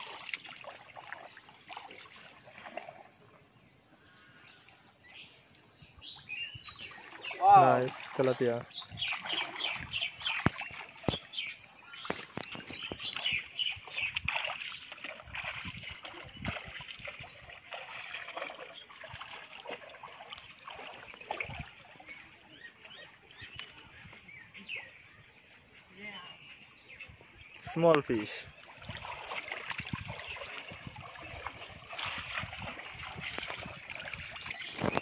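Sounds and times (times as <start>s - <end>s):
water splashing from wading: 0.0s - 24.2s, 27.7s - 35.0s
birds chirping: 0.0s - 35.0s.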